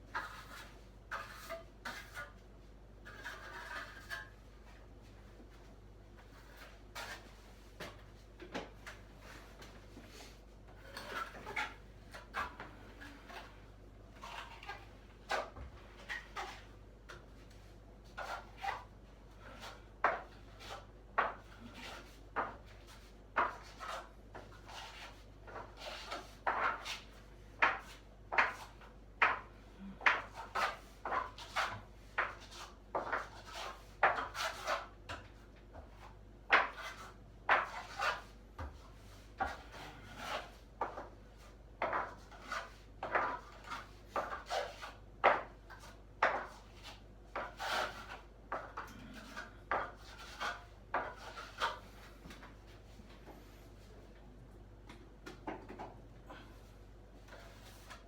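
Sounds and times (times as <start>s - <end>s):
putty knife scraping ceiling: 0.0s - 2.4s, 3.0s - 4.8s, 6.2s - 8.0s, 10.1s - 52.5s, 57.3s - 58.0s.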